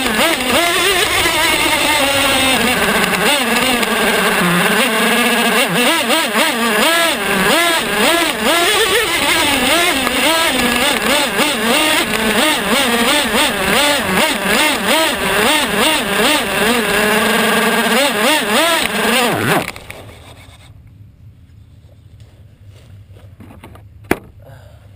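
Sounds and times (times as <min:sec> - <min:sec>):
small engine revving: 0:00.0 - 0:20.7.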